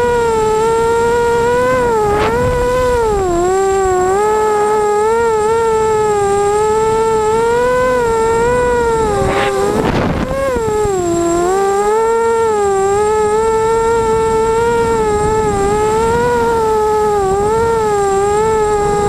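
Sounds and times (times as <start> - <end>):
quadcopter motors whining: 0.0 - 19.0
rush of noise: 0.0 - 19.0.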